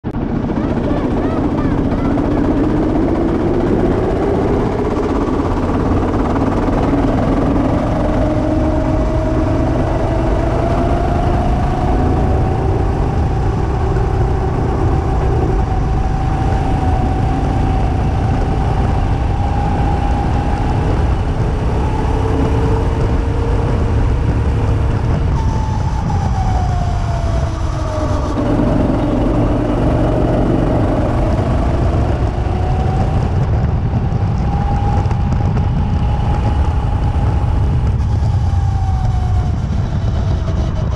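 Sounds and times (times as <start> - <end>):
heavy low rumble: 0.0 - 40.9
go-kart engine accelerating: 0.2 - 40.9.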